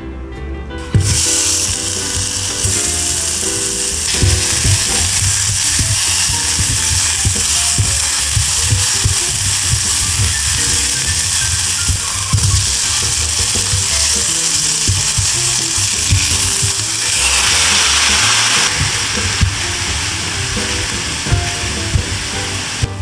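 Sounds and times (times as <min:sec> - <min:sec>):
onions sizzling in oil: 0:00.9 - 0:23.0.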